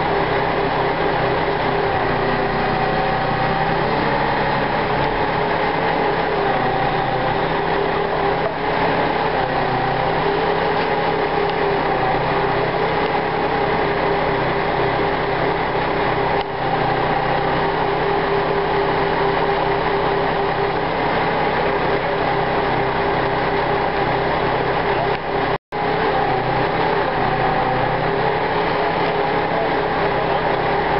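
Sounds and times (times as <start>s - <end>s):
machine engine droning: 0.0s - 30.9s.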